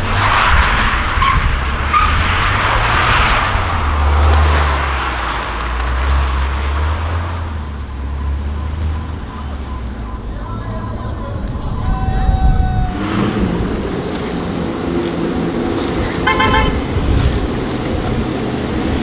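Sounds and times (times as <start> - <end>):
car exhaust rumble: 0.0 - 19.0.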